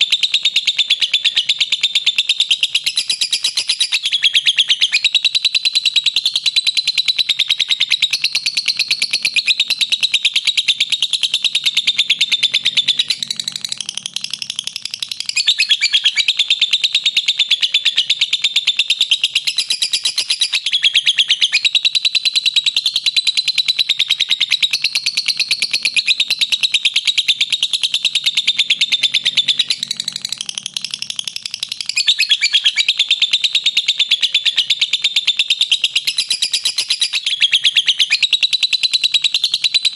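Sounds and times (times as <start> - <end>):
lovebird high-pitched chattering trill: 0.0 - 39.9.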